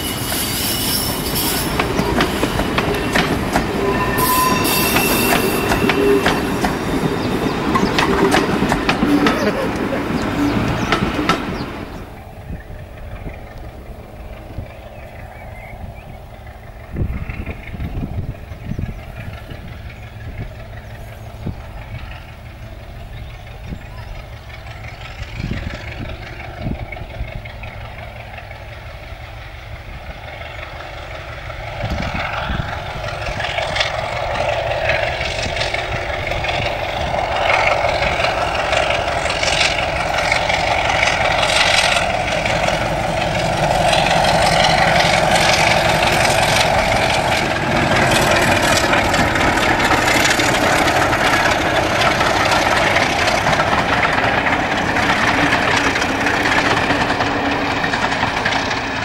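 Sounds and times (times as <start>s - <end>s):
diesel locomotive engine under power: 0.0s - 59.0s.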